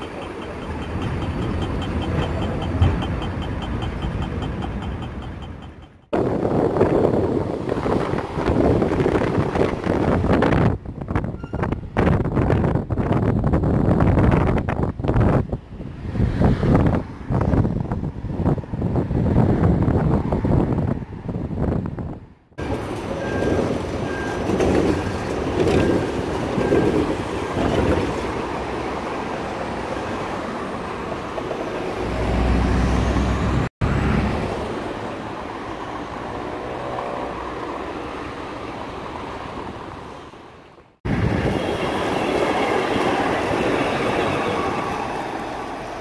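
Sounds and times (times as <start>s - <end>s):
tram high whine: 0.0s - 15.9s, 22.6s - 46.0s
trams running: 0.0s - 16.1s, 22.6s - 46.0s
street traffic: 0.0s - 46.0s.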